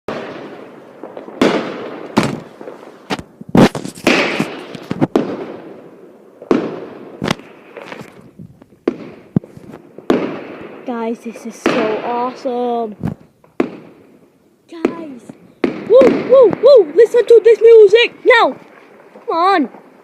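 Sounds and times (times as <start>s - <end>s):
fireworks bangs: 0.1s - 20.0s.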